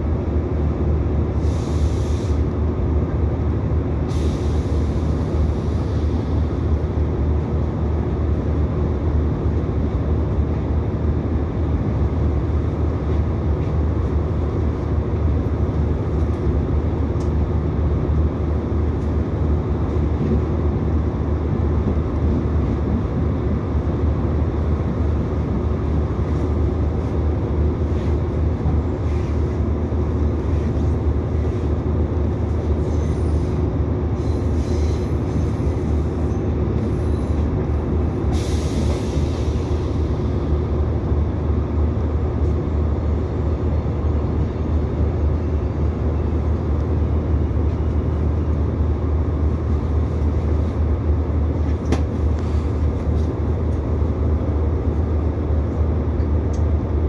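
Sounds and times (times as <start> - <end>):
train engine drone: 0.0 - 57.0.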